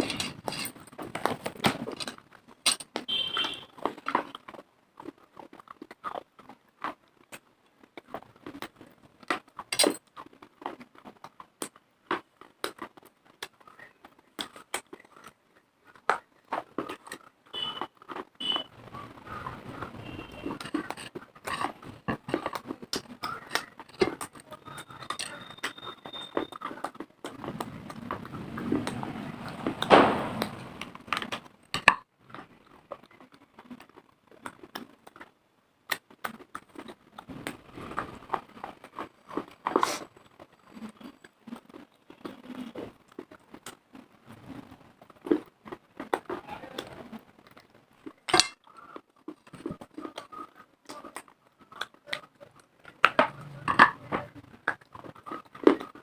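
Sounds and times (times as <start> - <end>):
crunching hard dry chalk: 0.0 - 56.0.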